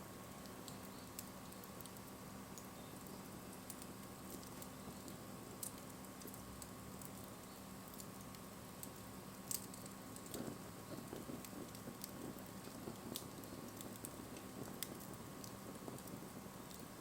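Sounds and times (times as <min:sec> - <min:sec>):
bonfire crackling: 0:00.0 - 0:17.0
low flutter of burning wood: 0:00.0 - 0:17.0
sharp pops of fire: 0:00.4 - 0:17.0.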